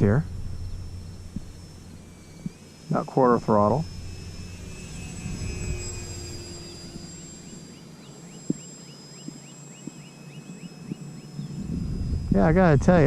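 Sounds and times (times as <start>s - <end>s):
model airplane motor whining: 0.0s - 13.0s.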